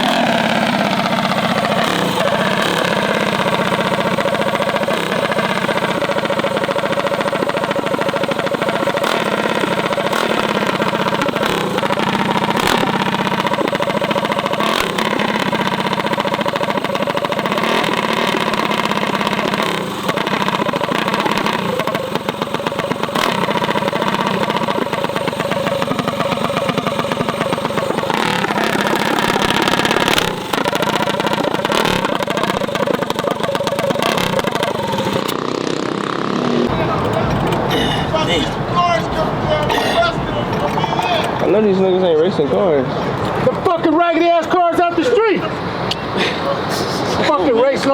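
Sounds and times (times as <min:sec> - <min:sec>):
mini bike engines revving: 0:00.0 - 0:47.9.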